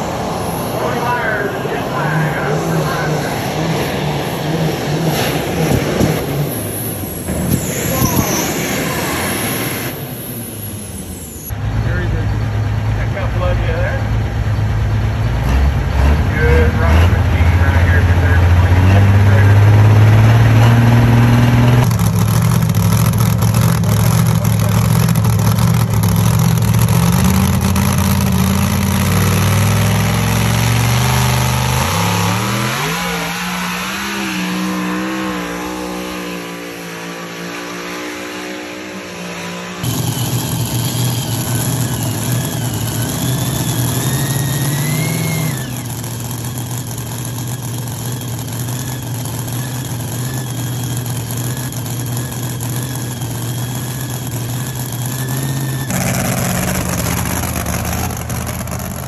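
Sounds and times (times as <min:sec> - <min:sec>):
supercharged engine running: 0:00.0 - 0:59.0
tractor engine running loud: 0:00.0 - 0:59.0.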